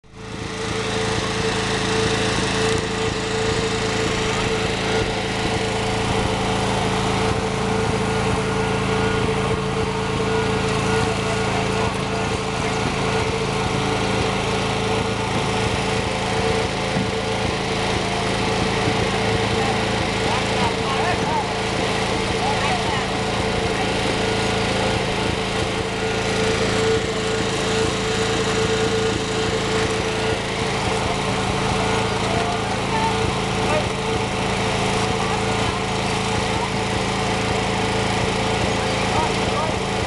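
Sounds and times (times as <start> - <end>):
small engine droning: 0.0 - 40.0.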